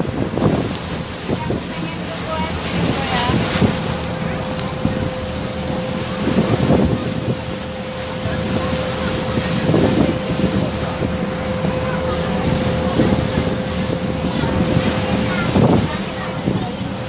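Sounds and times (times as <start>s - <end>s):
boat engine humming: 0.0s - 17.0s
water rushing: 0.0s - 17.0s
wind buffeting microphone: 0.0s - 17.0s.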